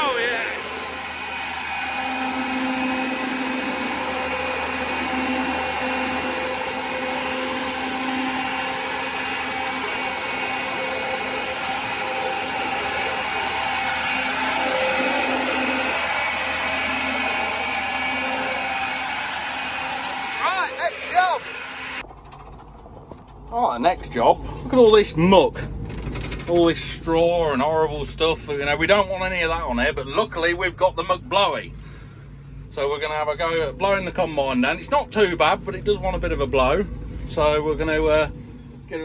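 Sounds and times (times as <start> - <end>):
blower fan rushing air: 0.0 - 39.0
engine motor hum: 0.0 - 39.0.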